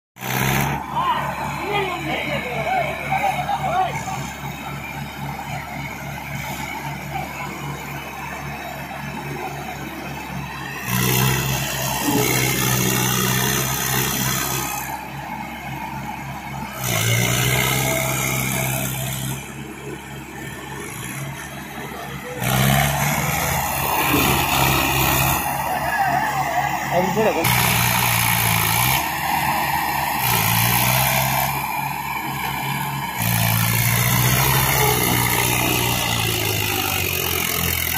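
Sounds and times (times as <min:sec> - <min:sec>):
tractor diesel engine revving: 0:00.2 - 0:37.9.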